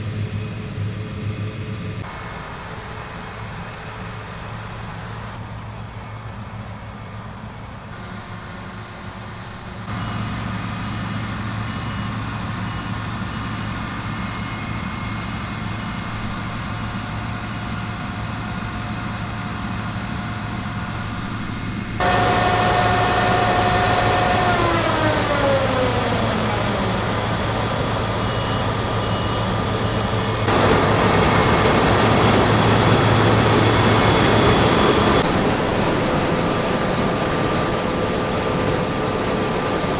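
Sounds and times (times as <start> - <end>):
combine harvester engine hum and whine: 0.0 - 39.9.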